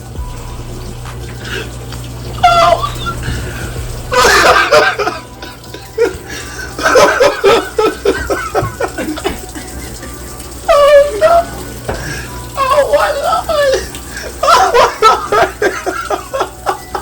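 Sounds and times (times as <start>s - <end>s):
people laughing and exclaiming: 2.4s - 10.1s, 10.7s - 17.0s.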